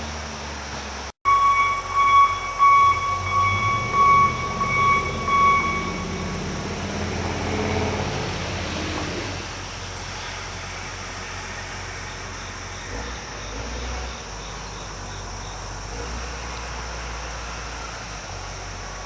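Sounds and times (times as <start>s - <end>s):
rumbling vehicle with high whine: 0.0s - 19.0s.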